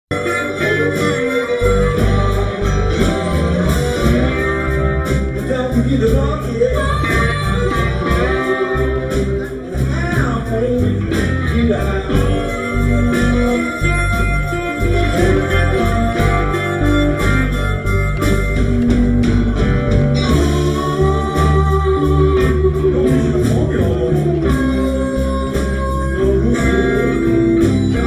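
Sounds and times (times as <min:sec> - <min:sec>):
bass guitar: 0:00.0 - 0:28.0
drums: 0:00.0 - 0:28.0
electric guitars: 0:00.1 - 0:28.0
live blues band playing: 0:00.1 - 0:28.0.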